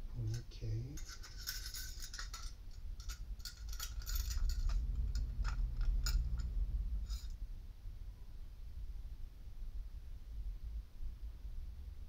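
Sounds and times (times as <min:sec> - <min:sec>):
low rumble: 0:02.0 - 0:12.0.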